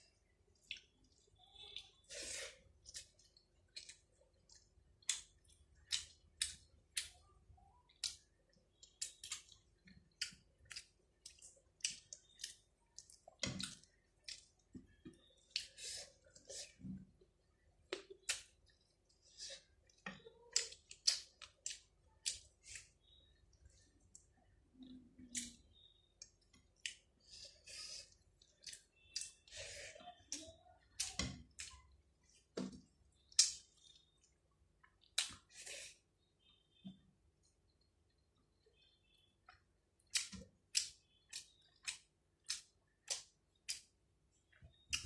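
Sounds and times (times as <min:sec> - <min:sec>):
person chewing with smacks: 0:00.2 - 0:36.0, 0:39.4 - 0:43.9.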